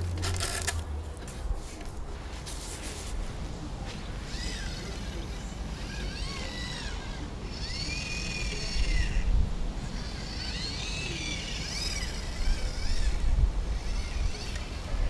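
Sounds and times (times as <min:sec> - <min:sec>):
motors whining: 0:00.0 - 0:01.2, 0:03.6 - 0:15.0.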